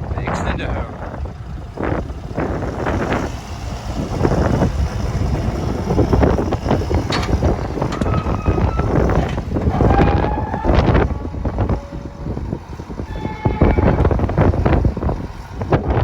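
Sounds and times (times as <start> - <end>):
heavy low rumble: 0.0 - 16.0
wind buffeting microphone: 0.0 - 16.0.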